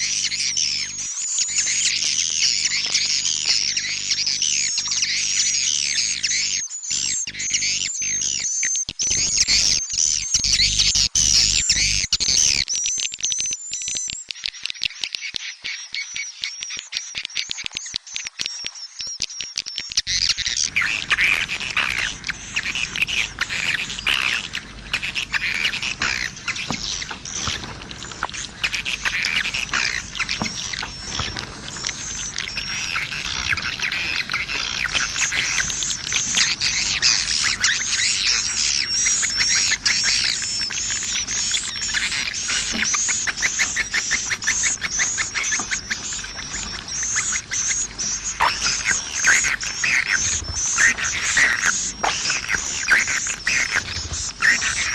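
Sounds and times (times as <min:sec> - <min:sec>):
swiftlets twittering and chirping: 0:00.0 - 0:54.9.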